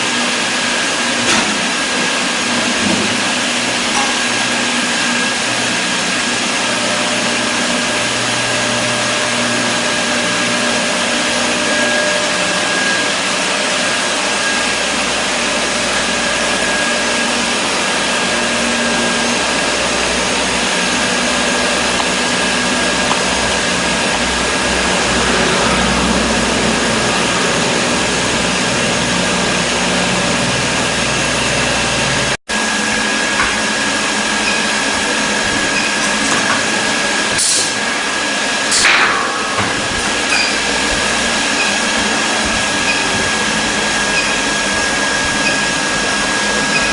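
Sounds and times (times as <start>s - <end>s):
machinery hissing and humming: 0.0s - 46.9s.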